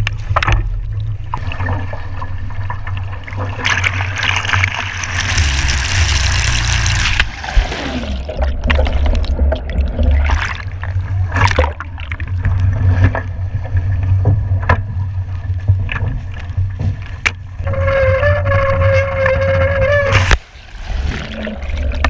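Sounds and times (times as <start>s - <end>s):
water splashing: 0.0s - 17.7s.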